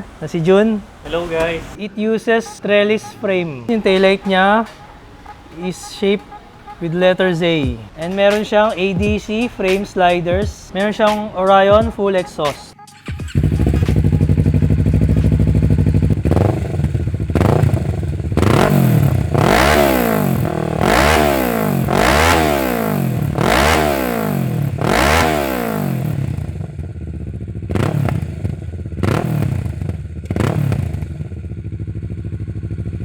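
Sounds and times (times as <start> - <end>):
motorcycle engine idling: 0.0 - 33.0
motorcycle engine revving: 0.0 - 33.0.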